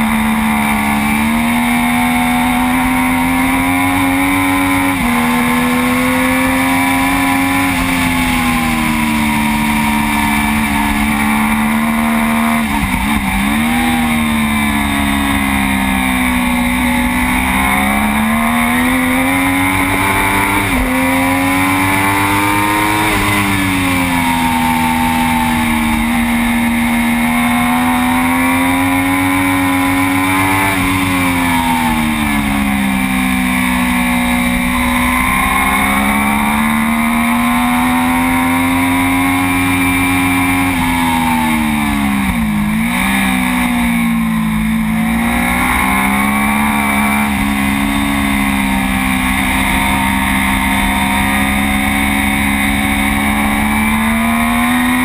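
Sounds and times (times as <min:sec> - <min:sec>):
motorcycle engine revving high: 0:00.0 - 0:55.0.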